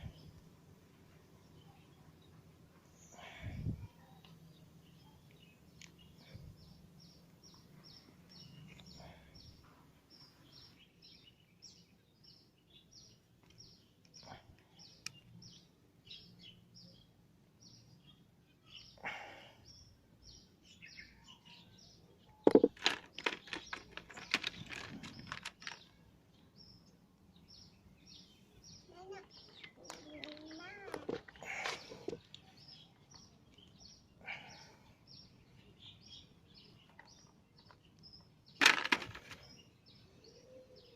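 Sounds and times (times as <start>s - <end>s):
bird chirping: 1.3s - 40.9s.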